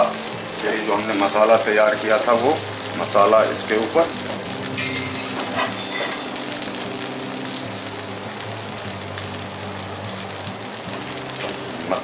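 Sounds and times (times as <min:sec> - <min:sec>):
dosa sizzling in pan: 0:00.0 - 0:12.0.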